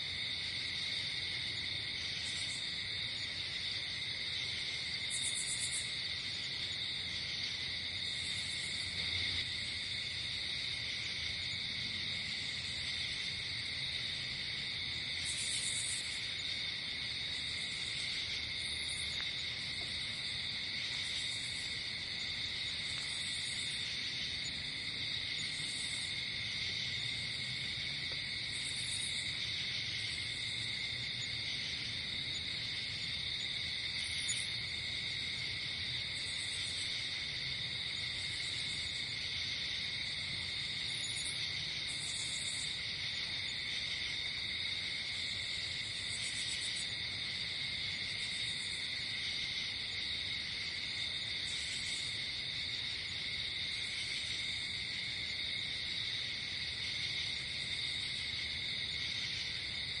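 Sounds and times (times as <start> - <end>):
crickets chirring: 0.0 - 60.0
high-pitched insect call: 0.0 - 60.0.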